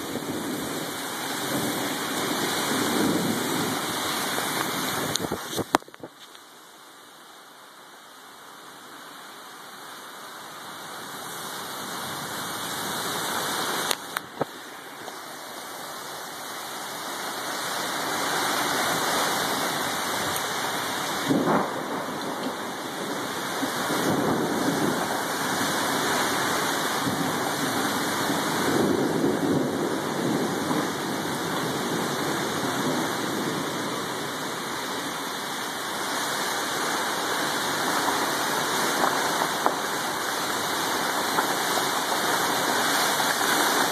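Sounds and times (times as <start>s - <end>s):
heavy wind-driven rain: 0.0s - 43.9s.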